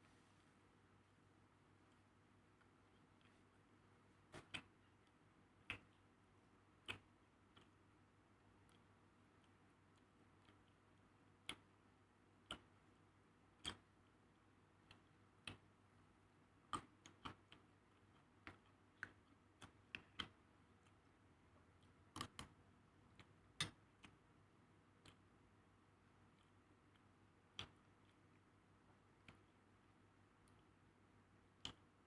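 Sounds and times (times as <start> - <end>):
faint sharp clicks and taps: 1.6 - 15.8, 16.6 - 32.0.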